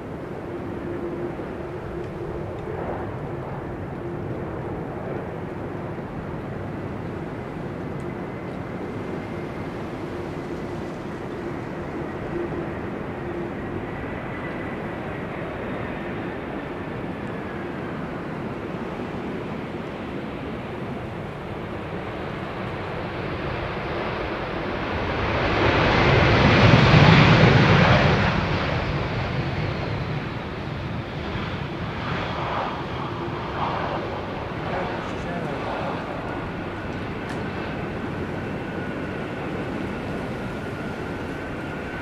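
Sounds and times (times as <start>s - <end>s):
jet engines rushing: 0.0s - 42.0s.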